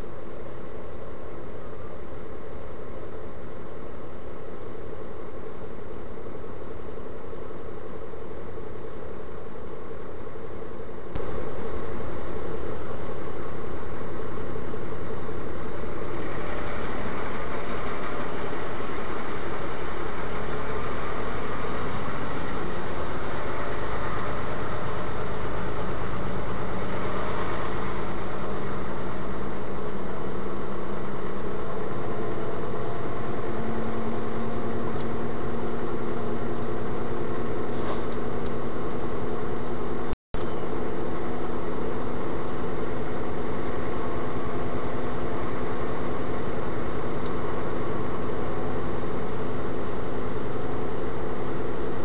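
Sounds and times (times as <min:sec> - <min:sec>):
road noise: 0:00.0 - 0:52.0
vehicle engine running: 0:00.0 - 0:52.0.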